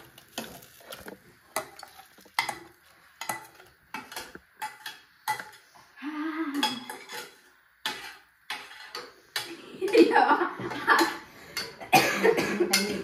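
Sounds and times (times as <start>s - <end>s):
metal spoon scraping a pan: 0.0s - 5.9s, 6.5s - 11.9s.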